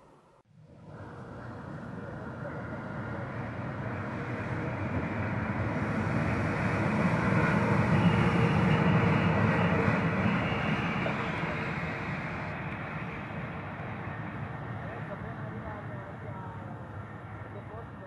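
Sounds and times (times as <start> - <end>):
freight train passing: 0.6 - 18.0.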